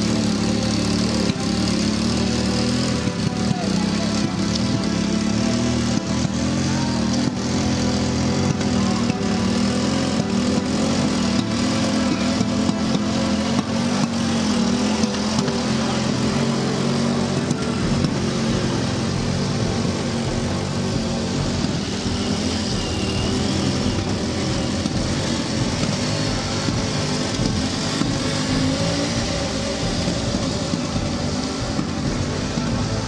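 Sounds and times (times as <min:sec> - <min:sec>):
motorcycle-type engine running: 0:00.0 - 0:33.0.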